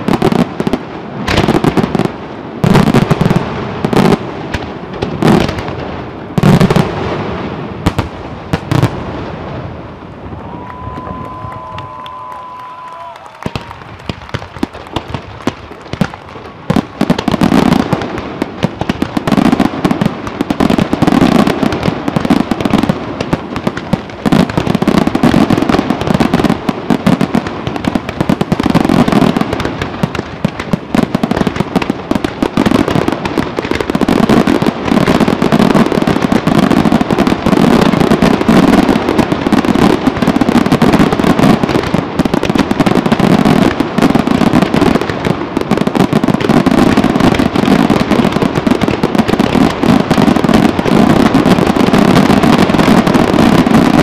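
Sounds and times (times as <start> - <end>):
fireworks barrage of bangs and crackle: 0.0 - 54.0.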